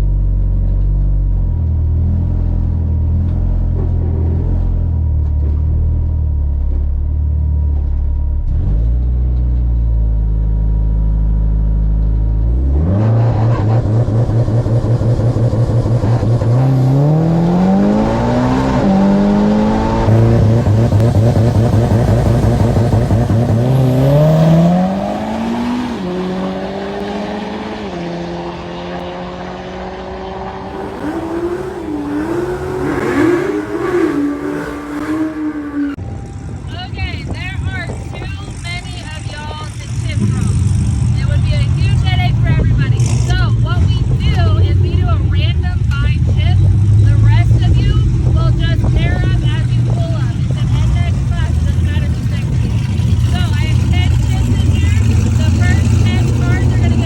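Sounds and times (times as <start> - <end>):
drag race car engine revving: 0.0 - 36.0, 36.7 - 57.0.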